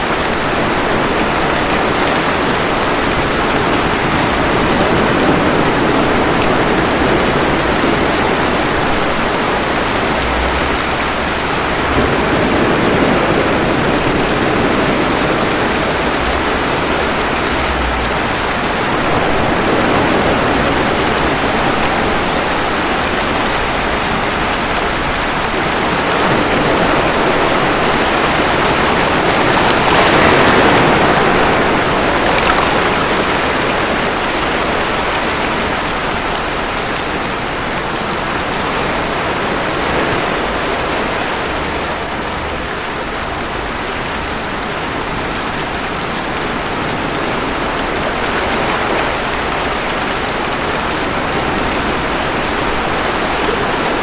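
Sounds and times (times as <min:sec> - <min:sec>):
ocean waves washing ashore: 0:00.0 - 0:54.0
steady rain: 0:00.0 - 0:54.0.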